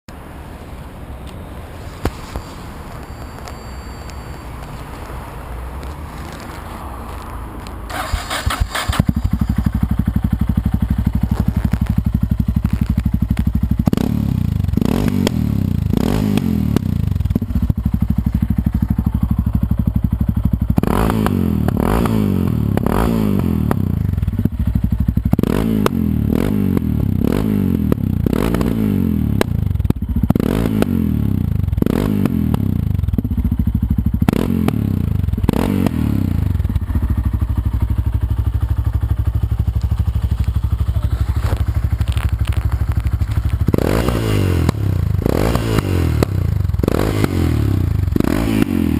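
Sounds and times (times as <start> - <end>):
exhaust crackles and pops: 1.2 - 26.0, 27.9 - 30.9, 36.6 - 48.7
motorcycle engine revving: 7.9 - 48.9.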